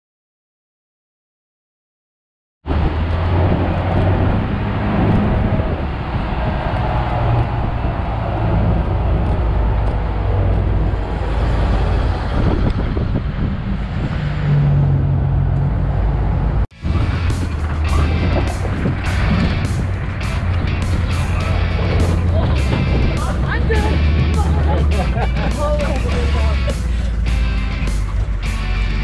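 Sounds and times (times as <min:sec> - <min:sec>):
jeep engine hum: 0:02.7 - 0:29.0
tyre and air noise: 0:02.7 - 0:29.0.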